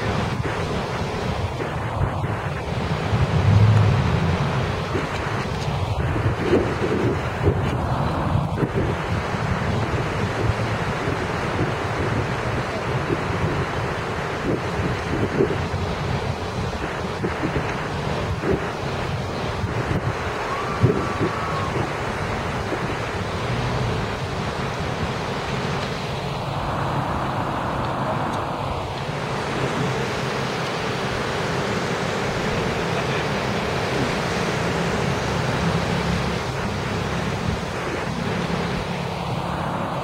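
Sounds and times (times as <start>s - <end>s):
surf breaking on rocks: 0.0s - 39.9s
wind buffeting microphone: 0.0s - 40.0s.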